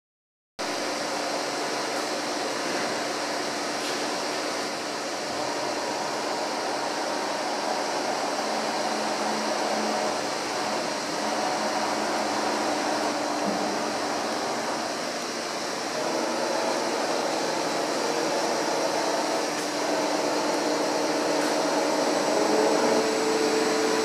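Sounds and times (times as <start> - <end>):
machining centre hum and whir: 0.6 - 24.0.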